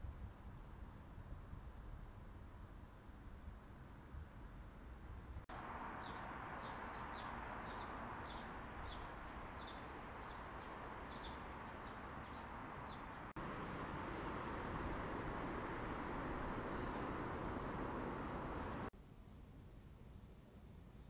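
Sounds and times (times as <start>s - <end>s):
city background noise: 0.0s - 21.0s.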